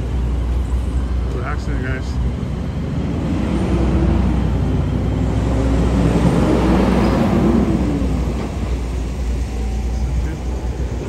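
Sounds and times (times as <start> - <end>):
low traffic rumble: 0.0 - 11.0
truck engine passing: 1.0 - 11.0.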